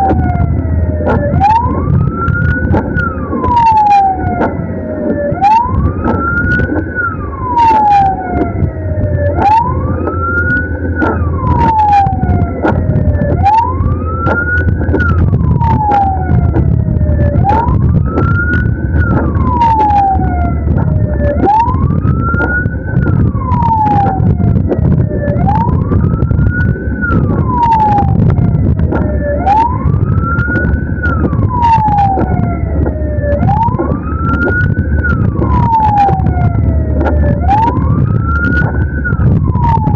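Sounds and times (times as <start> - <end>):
ambulance siren wailing: 0.0 - 39.9
engine and road noise: 0.0 - 39.9.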